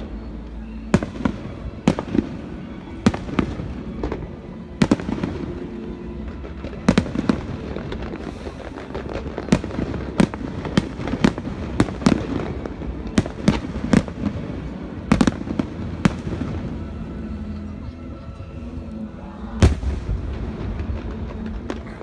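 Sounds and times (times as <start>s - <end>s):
fireworks bursting with sharp bangs: 0.0s - 17.9s, 19.5s - 22.0s
low background din: 0.0s - 22.0s.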